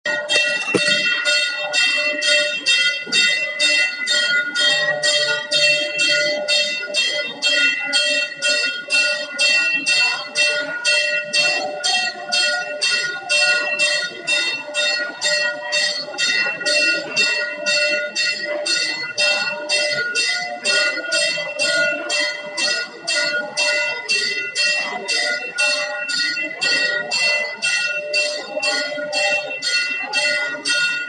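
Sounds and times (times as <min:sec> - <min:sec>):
temple bell ringing: 0:00.1 - 0:31.0.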